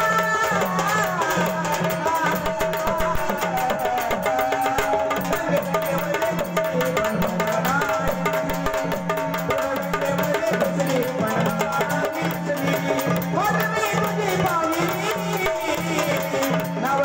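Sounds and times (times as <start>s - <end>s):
hand percussion: 0.0s - 17.0s.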